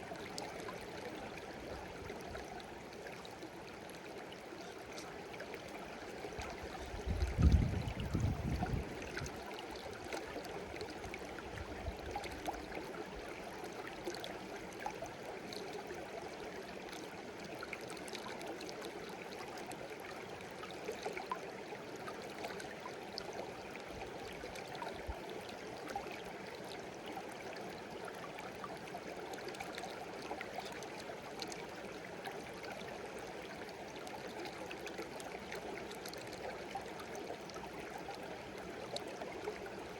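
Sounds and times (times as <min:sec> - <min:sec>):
shallow stream babbling: 0:00.0 - 0:39.9.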